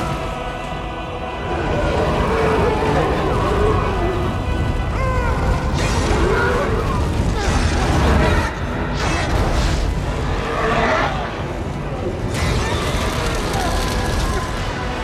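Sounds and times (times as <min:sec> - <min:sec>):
orchestral music: 0:00.0 - 0:15.0.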